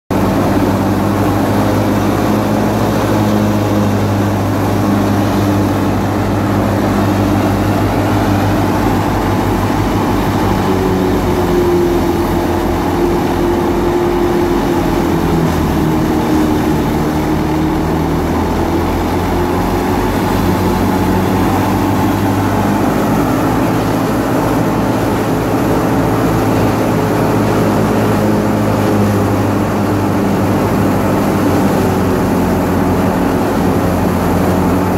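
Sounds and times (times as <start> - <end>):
tractor driven thresher drone: 0.1 - 34.9.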